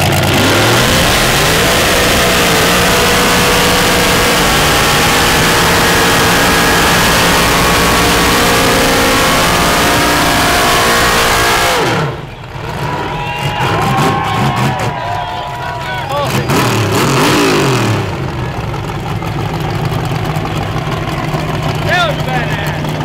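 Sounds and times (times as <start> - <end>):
tires spinning on dirt: 0.0 - 23.0
truck engines at high revs: 0.0 - 23.0
crowd voices: 0.5 - 23.0.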